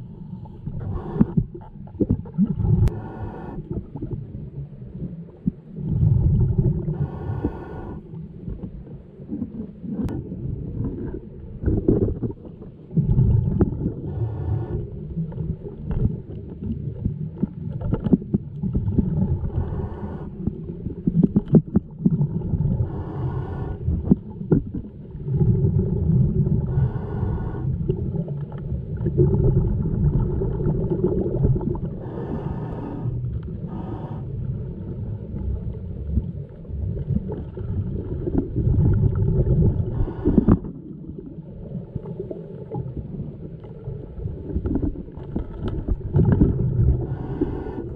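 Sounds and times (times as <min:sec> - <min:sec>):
low rumble of moving water: 0:00.0 - 0:47.9
regulator exhaust bubbling underwater: 0:00.0 - 0:47.9.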